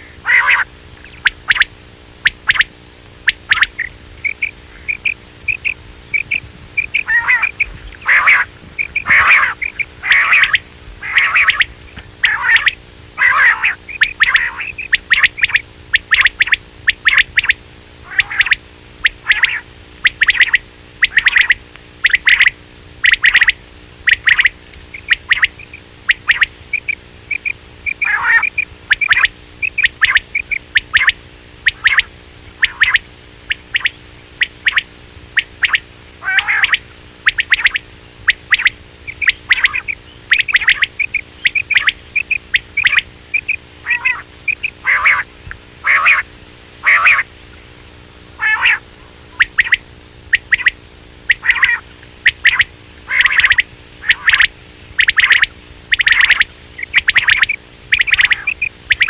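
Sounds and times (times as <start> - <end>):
recorded quail calls: 0.0 - 47.6, 48.3 - 59.0
faint steady hum: 0.0 - 59.0.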